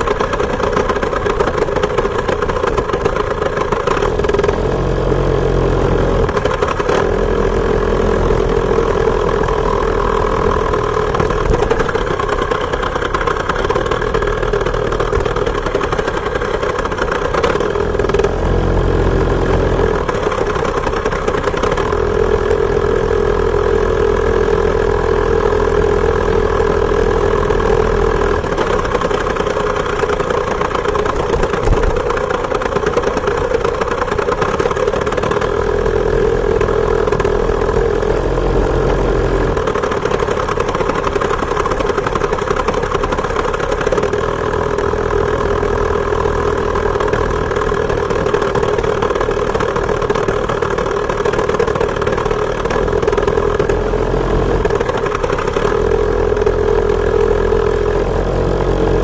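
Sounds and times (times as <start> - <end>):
two-stroke moped engine running: 0.0 - 59.0.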